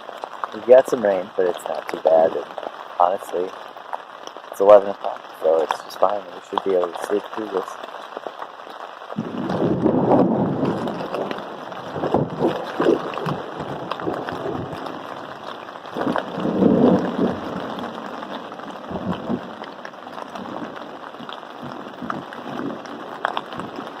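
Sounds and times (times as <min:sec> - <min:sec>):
rain on a tent: 0:00.0 - 0:24.0
raindrop ticks: 0:00.0 - 0:24.0
wind: 0:00.0 - 0:24.0.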